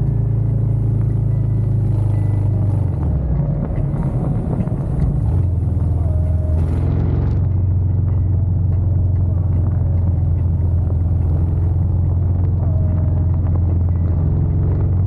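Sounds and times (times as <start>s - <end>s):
motorcycle engine running: 0.0s - 15.0s
truck running alongside: 0.0s - 15.0s.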